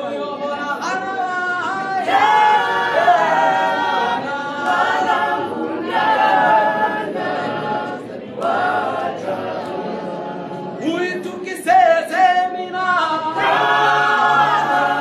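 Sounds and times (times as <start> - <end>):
group singing a cappella: 0.0 - 15.0.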